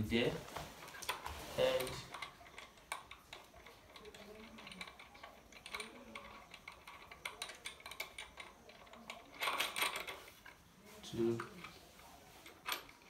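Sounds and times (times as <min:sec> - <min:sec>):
metal bolts and nuts clicking: 0:00.8 - 0:10.7, 0:11.3 - 0:13.0.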